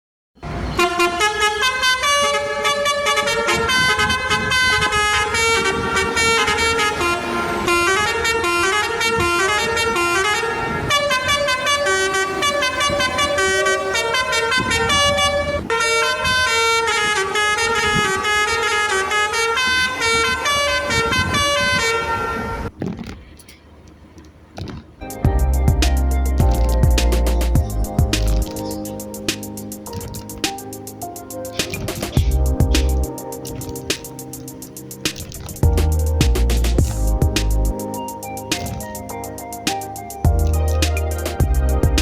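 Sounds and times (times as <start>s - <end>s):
musical air horns playing tune: 0.4s - 22.7s, 25.1s - 42.0s.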